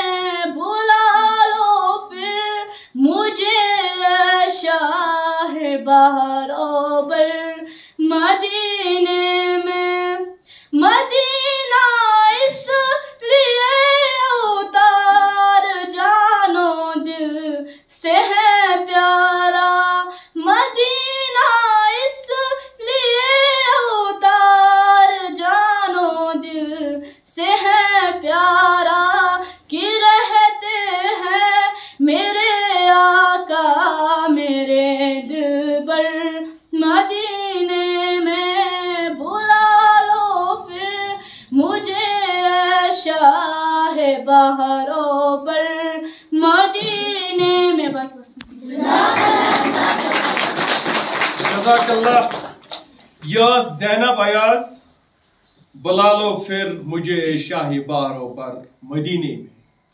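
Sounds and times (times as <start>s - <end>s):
girl singing into a microphone: 0.0s - 48.6s.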